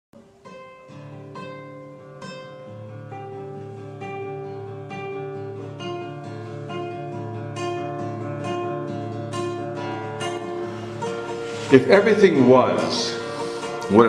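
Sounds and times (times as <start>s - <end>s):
acoustic guitar: 0.2s - 14.0s.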